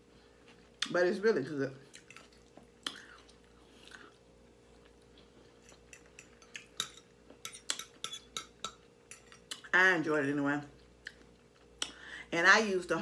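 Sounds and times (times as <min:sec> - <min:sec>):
soft chewing: 0:00.0 - 0:09.7, 0:10.6 - 0:12.2.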